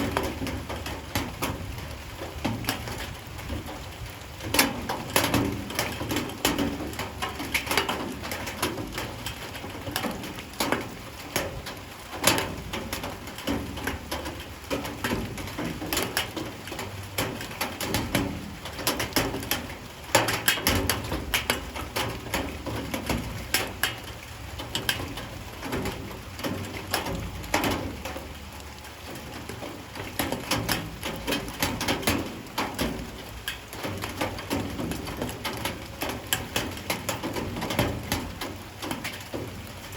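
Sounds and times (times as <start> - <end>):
rain drops tapping hard surfaces: 0.0 - 39.9
steady rain patter: 0.0 - 39.9.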